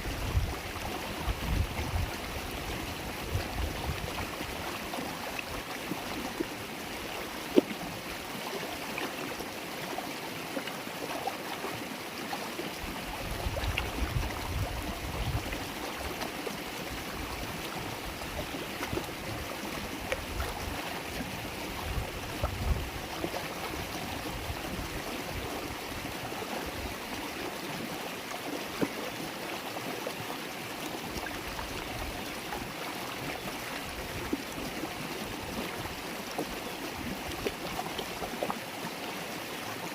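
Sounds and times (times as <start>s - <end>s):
stream babbling over stones: 0.0s - 39.9s
small water splashes: 3.3s - 39.9s.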